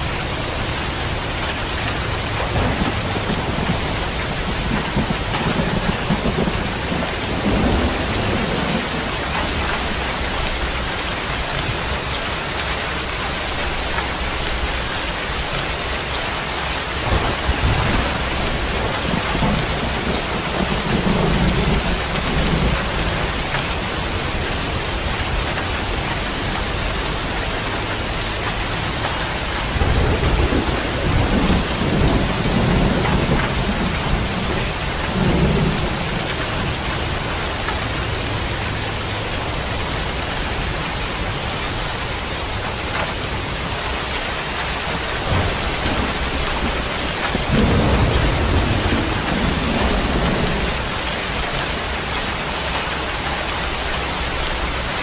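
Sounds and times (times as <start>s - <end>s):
steady rain falling: 0.0s - 55.0s
thunder rumbling: 0.0s - 55.0s.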